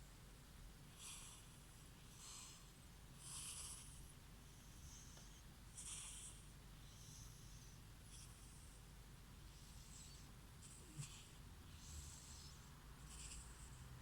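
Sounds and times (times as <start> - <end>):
cat snoring softly: 0.9 - 14.0.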